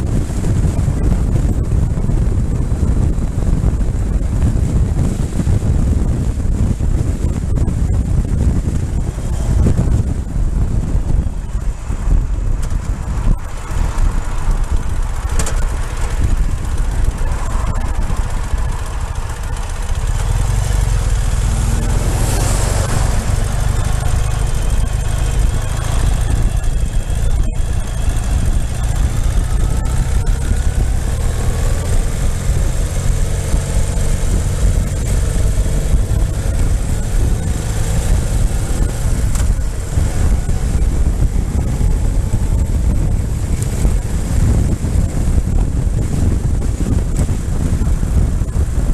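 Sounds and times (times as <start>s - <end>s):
motorcycle engine running: 0.0s - 48.9s
wind rumbling on microphone: 0.0s - 48.9s.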